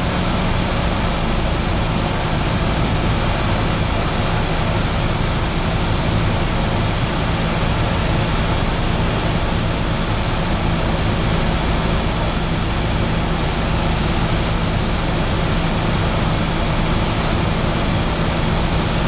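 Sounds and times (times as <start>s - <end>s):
aircraft engine and propeller droning: 0.0s - 19.0s.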